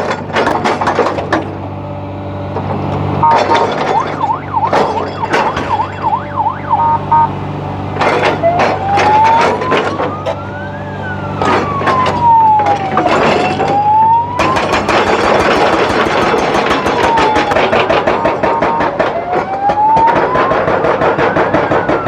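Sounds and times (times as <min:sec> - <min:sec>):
sharp knocks and clatter: 0:00.0 - 0:01.7, 0:02.6 - 0:07.0, 0:07.9 - 0:10.7, 0:11.3 - 0:22.0
engine hum: 0:00.0 - 0:22.0
siren yelp and wail: 0:03.2 - 0:07.4, 0:08.1 - 0:22.0.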